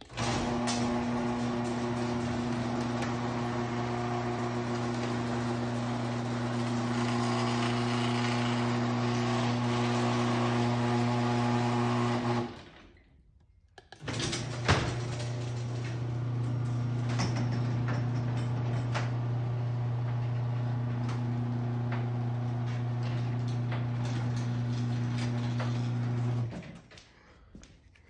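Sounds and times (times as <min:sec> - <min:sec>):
garage door opener motor humming: 0:00.0 - 0:13.0, 0:14.0 - 0:26.8.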